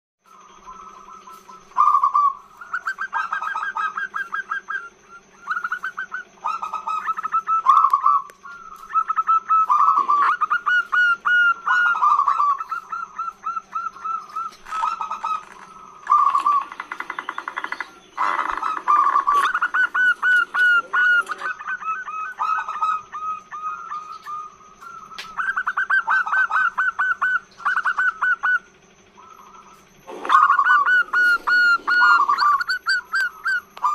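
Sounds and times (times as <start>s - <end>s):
faint hum: 0.2s - 33.9s
dove cooing rolling notes: 0.3s - 33.9s.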